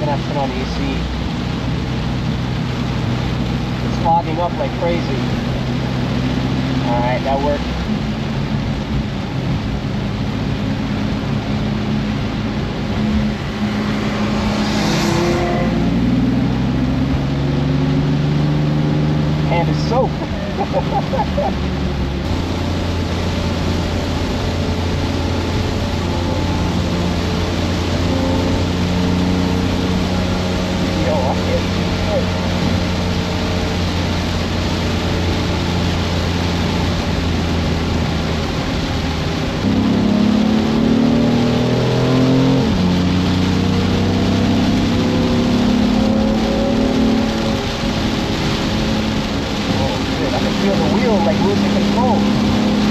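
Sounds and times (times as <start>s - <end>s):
car engine running: 0.0s - 52.9s
hiss of rain and tyre spray: 0.0s - 52.9s.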